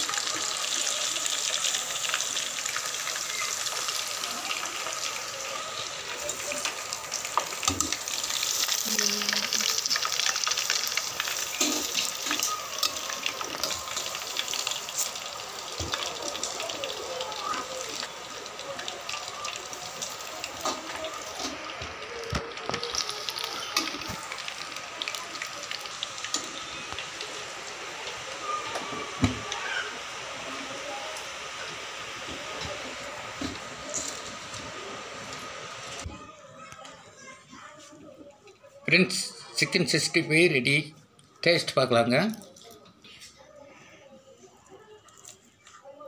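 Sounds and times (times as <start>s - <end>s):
hot oil sizzling and popping: 0.0s - 37.7s, 40.9s - 43.4s.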